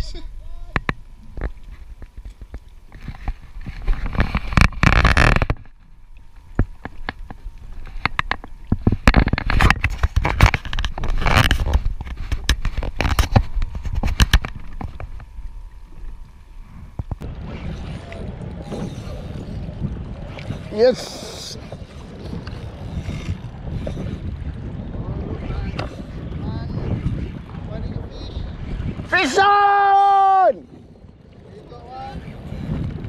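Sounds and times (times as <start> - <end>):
water slapping hull: 0.7 - 33.0
wind buffeting microphone: 6.4 - 33.0.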